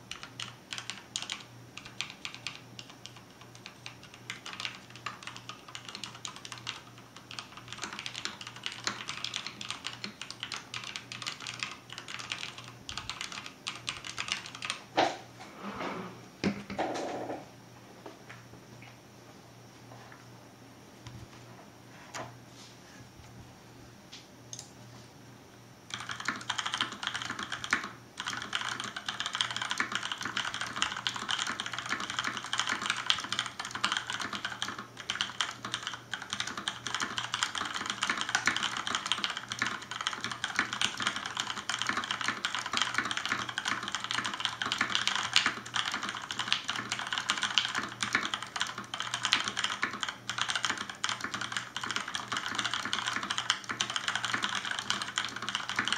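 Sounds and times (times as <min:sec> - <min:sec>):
mechanical keyboard typing: 0:00.0 - 0:14.8, 0:25.9 - 0:55.9.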